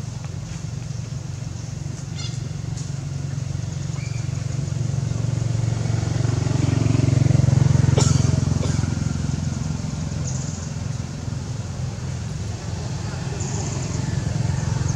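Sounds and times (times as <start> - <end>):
vehicle engine humming: 0.0 - 14.9.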